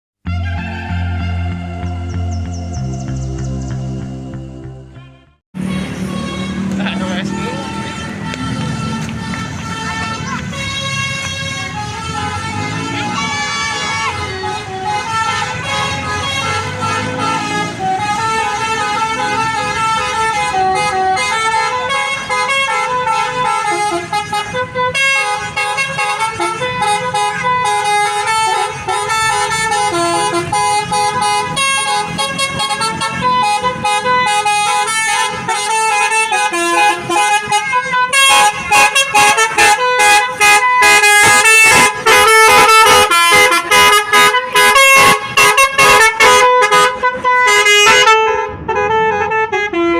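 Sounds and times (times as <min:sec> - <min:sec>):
bus horn playing multi-tone melody: 0:00.2 - 0:49.9.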